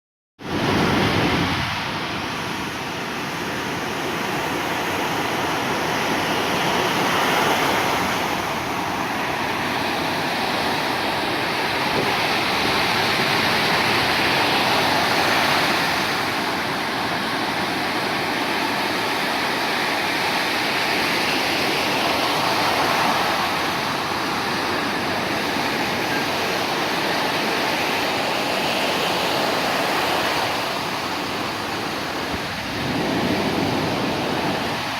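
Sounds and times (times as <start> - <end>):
surf breaking on a beach: 0.4 - 34.9.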